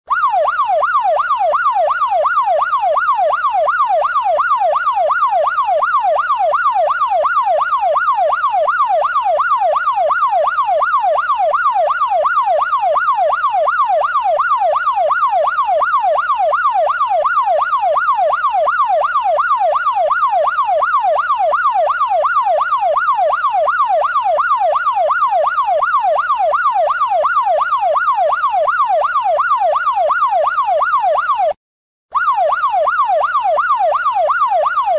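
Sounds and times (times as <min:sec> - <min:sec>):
police siren yelping: 0:00.1 - 0:34.9.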